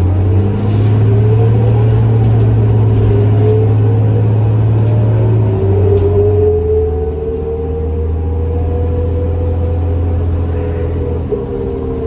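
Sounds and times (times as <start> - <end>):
bus engine humming: 0.0 - 12.0
rising engine whine: 0.0 - 12.0.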